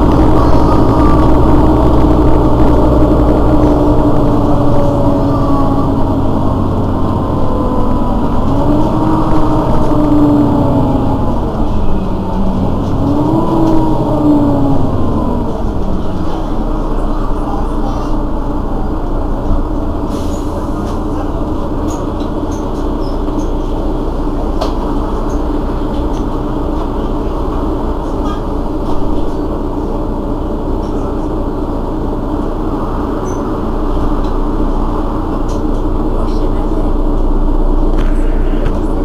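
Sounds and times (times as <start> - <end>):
bus diesel engine idling: 0.0 - 39.0.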